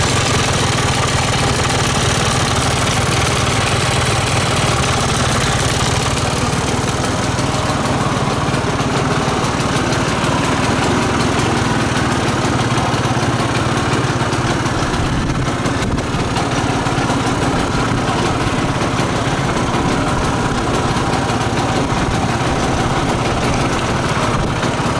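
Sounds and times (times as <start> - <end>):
two-stroke engine idling: 0.0 - 24.9.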